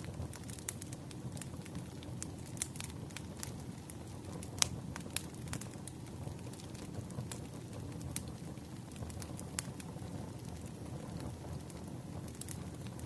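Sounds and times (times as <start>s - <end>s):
firewood crackling and popping: 0.0s - 13.0s
low rush of flame: 0.0s - 13.0s.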